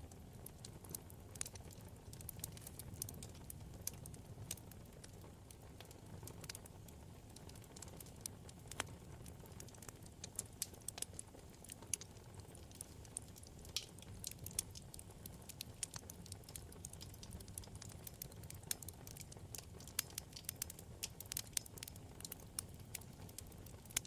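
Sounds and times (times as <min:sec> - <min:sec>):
burning logs crackling and popping: 0:00.0 - 0:24.0
flames rumbling: 0:00.1 - 0:24.0.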